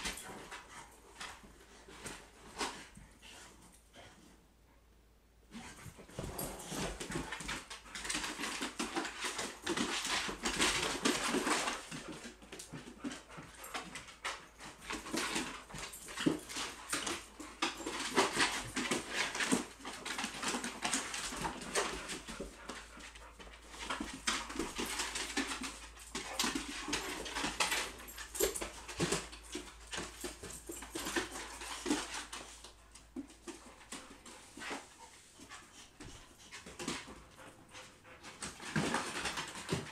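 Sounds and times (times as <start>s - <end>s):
dogs scuffling: 0.0s - 4.4s, 5.4s - 39.9s
dogs play noises: 0.0s - 39.9s.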